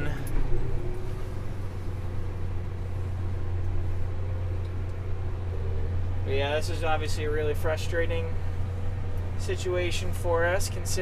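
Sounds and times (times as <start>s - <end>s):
farm machine engine droning: 0.0s - 11.0s.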